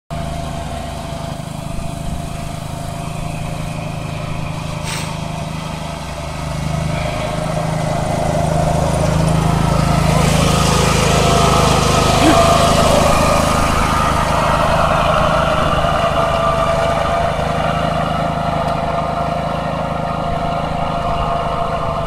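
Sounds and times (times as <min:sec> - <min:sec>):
tractor engine running under load: 0:00.1 - 0:22.0.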